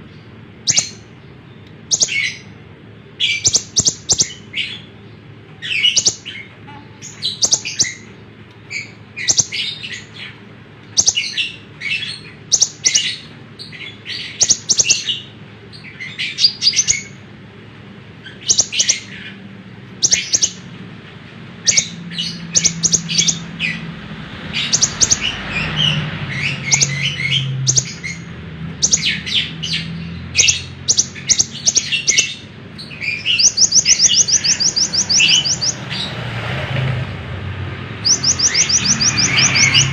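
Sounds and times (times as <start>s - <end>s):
bird chirping and trilling: 0.0s - 17.2s, 18.1s - 20.8s, 21.6s - 36.3s, 37.9s - 39.9s.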